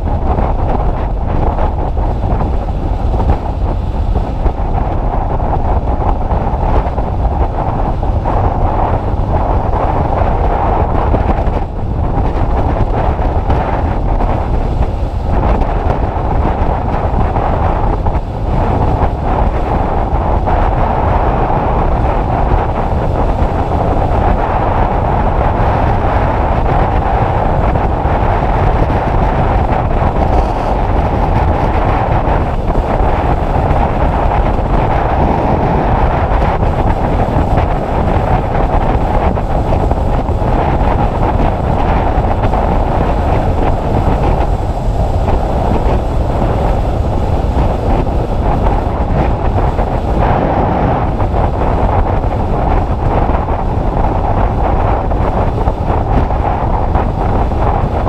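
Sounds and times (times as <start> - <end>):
motorcycle low rumble: 0.0 - 58.0
wind buffeting microphone: 0.0 - 58.0.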